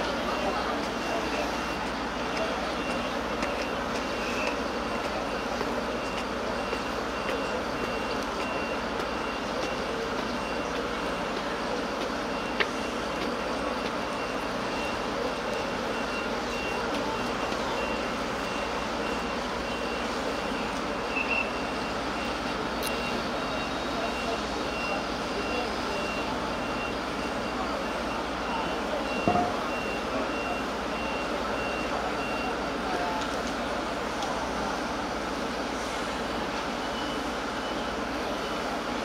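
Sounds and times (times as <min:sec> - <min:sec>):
backup alarm beeping: 0:00.0 - 0:32.9, 0:36.3 - 0:38.8
heavy machinery running: 0:00.0 - 0:39.0.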